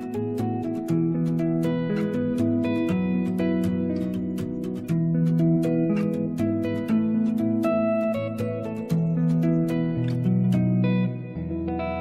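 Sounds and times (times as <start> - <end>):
plucked string instrumental: 0.0 - 12.0.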